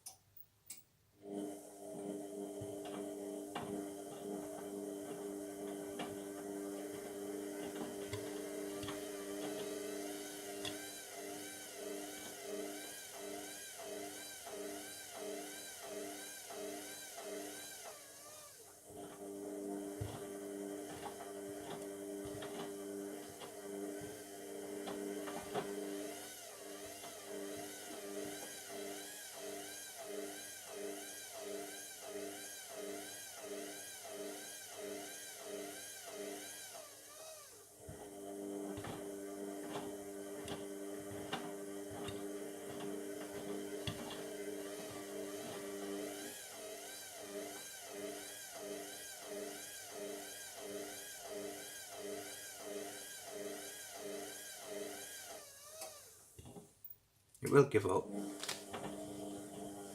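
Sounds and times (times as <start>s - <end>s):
washing machine motor whining: 1.2s - 56.7s, 57.8s - 59.9s.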